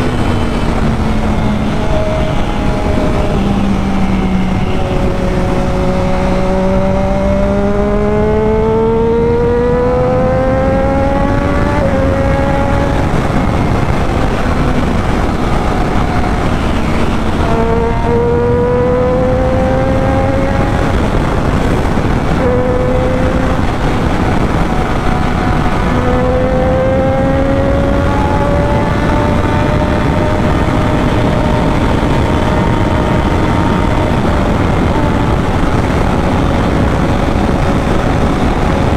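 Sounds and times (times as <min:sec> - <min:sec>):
motorcycle engine accelerating: 0:00.0 - 0:38.9
wind rush: 0:00.0 - 0:38.9.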